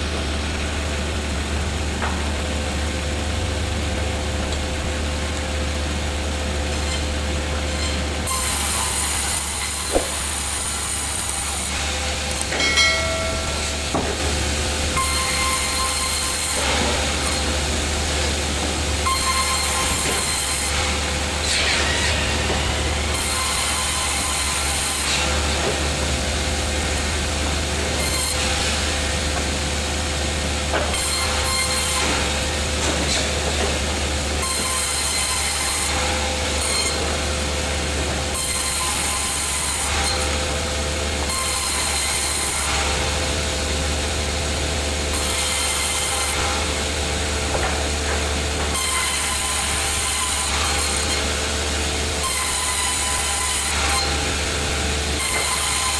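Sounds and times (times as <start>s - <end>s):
sawmill machinery humming: 0.0s - 55.9s
saw cutting wood: 6.7s - 55.9s.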